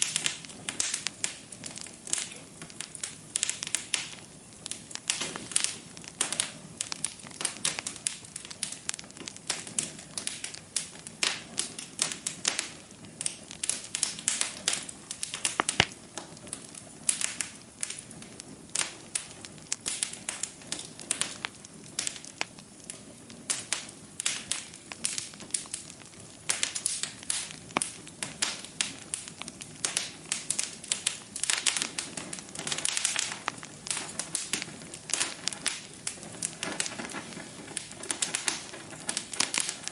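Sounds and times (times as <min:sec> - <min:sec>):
flames rushing softly: 0:00.0 - 0:39.9
log fire crackling and popping: 0:00.0 - 0:39.9.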